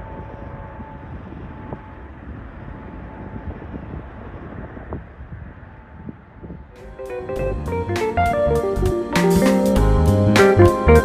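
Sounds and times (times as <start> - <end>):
wind buffeting microphone: 0.0 - 9.0
faint engine whine: 0.0 - 11.0
jet engines rumbling: 0.0 - 11.0.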